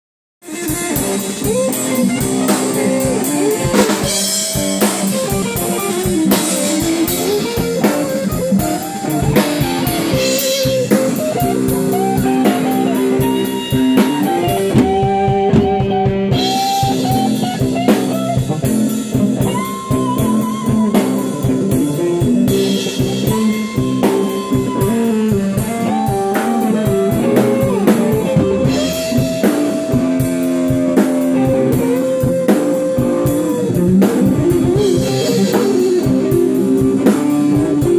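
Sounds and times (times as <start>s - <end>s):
drums with cymbals: 0.4s - 37.9s
electric guitar lead: 0.4s - 37.9s.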